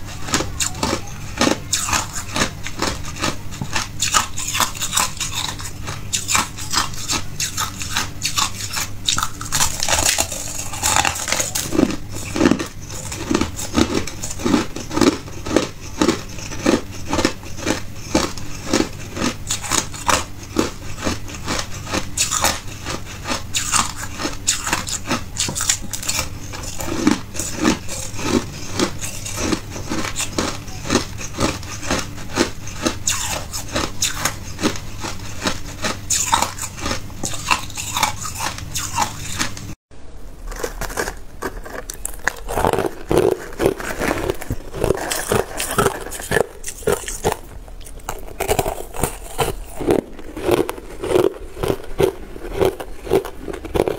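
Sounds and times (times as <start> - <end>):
person crunching ice: 0.2 - 39.5, 40.4 - 53.9.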